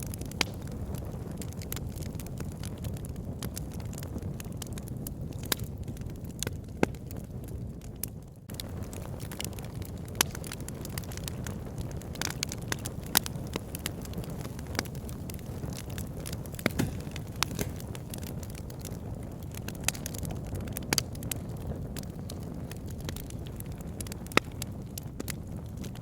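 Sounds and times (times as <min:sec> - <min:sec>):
flames rumbling: 0:00.0 - 0:26.0
logs crackling and popping: 0:00.0 - 0:26.0.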